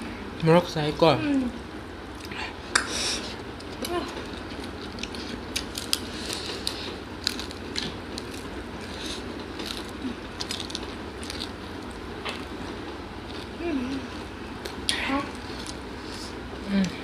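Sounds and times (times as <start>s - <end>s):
people chewing crunchy food: 2.0s - 17.0s.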